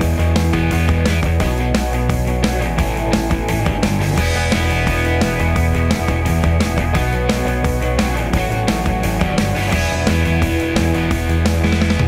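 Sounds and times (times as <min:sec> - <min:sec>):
music with steady beat: 0:00.0 - 0:12.0.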